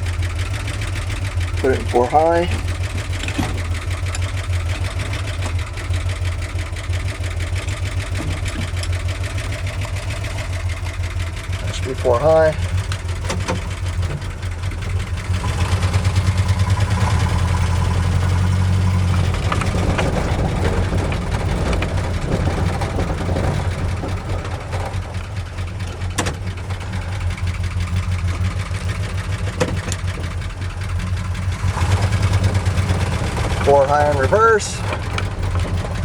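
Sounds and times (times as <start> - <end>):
truck engine rumbling: 0.0 - 36.0.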